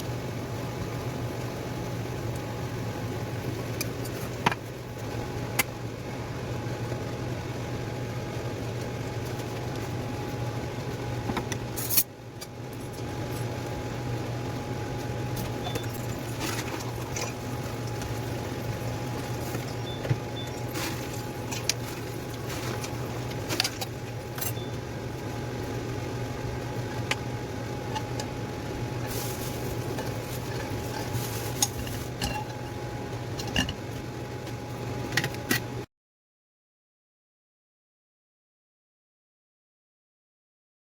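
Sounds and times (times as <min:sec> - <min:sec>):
low mechanical fan hum: 0:00.0 - 0:35.9.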